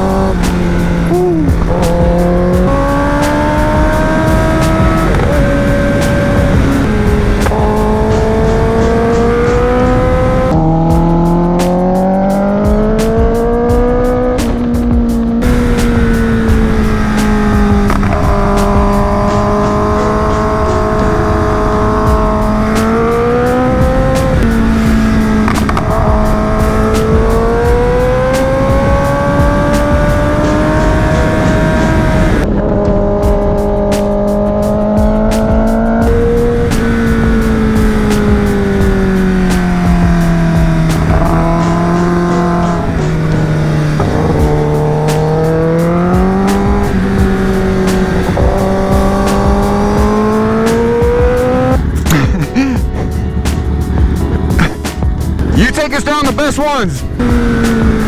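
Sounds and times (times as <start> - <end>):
motorcycle engine revving: 0.0 - 55.8, 57.0 - 58.0
wind noise: 0.0 - 56.0
road noise: 0.0 - 58.0.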